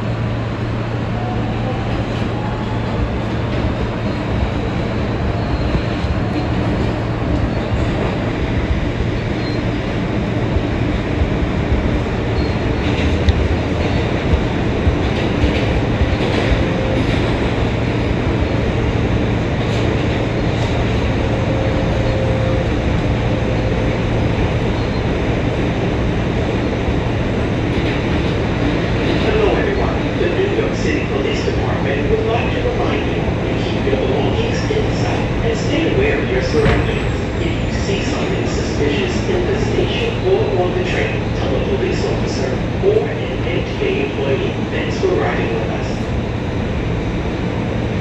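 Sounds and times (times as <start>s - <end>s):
subway wheels rumbling on rail: 0.0s - 48.0s.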